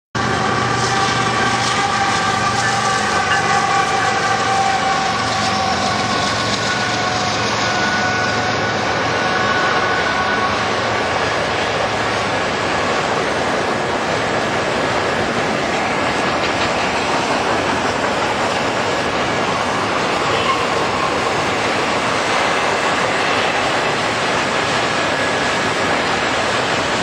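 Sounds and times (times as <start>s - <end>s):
freight train wheels on rails: 0.2s - 27.0s.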